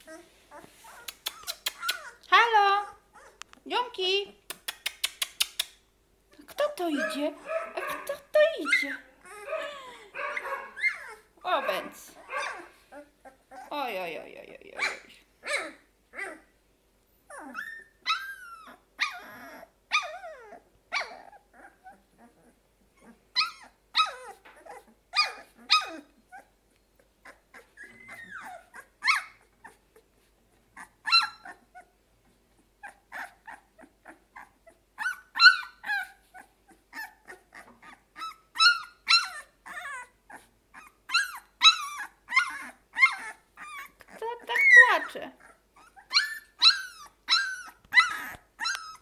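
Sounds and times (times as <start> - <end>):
puppies yelping and whining: 0.0 - 3.5, 6.8 - 13.8, 14.8 - 49.0.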